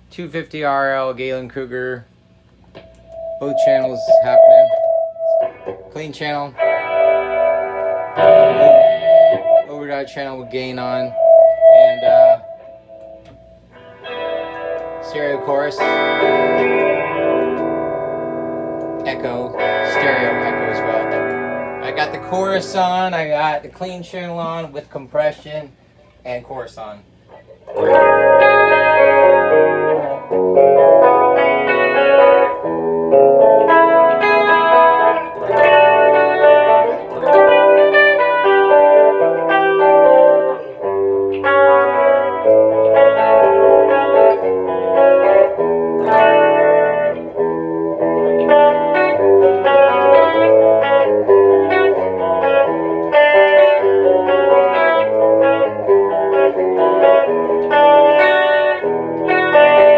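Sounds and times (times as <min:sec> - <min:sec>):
clean electric guitar chords: 0:02.4 - 0:23.5, 0:27.2 - 0:59.9.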